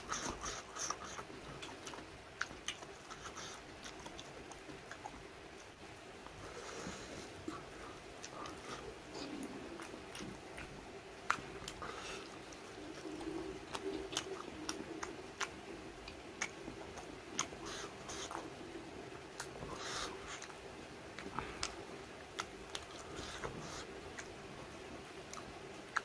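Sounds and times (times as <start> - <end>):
person chewing: 0.0 - 5.7, 6.5 - 18.6, 19.3 - 24.4, 25.3 - 26.0.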